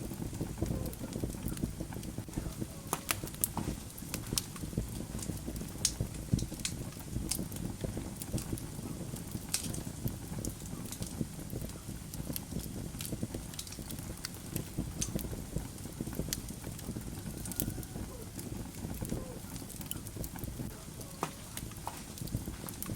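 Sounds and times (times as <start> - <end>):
logs crackling and popping: 0.0 - 22.9
wood fire rumbling: 0.0 - 22.9.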